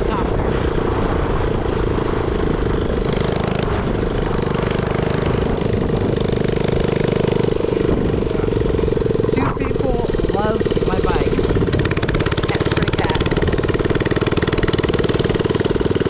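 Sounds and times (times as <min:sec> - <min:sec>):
minibike engine running: 0:00.0 - 0:16.0.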